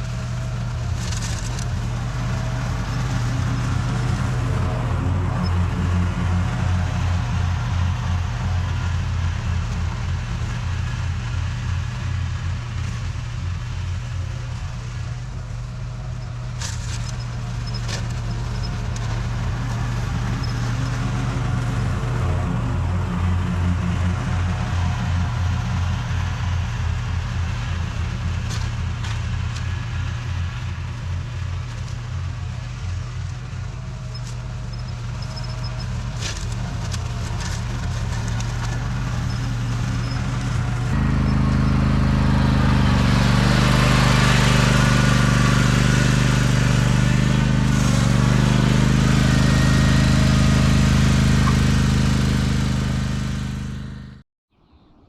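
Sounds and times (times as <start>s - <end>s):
lawn mower engine running: 0.0s - 54.2s.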